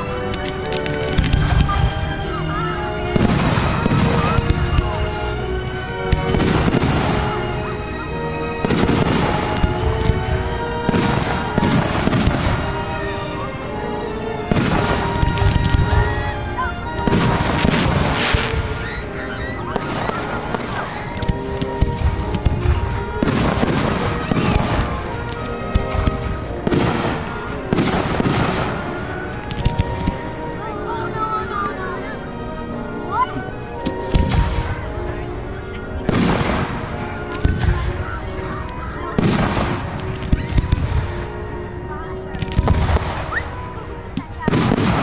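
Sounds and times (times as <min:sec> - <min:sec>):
music with long held notes: 0:00.0 - 0:45.0.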